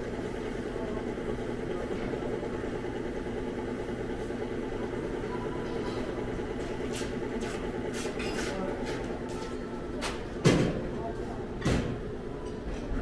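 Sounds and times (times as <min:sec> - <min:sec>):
chocolate fountain motor humming: 0:00.0 - 0:13.0.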